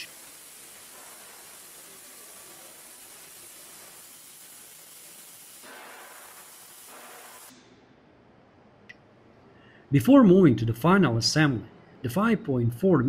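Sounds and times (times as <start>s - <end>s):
steady background hiss: 0.0s - 12.7s.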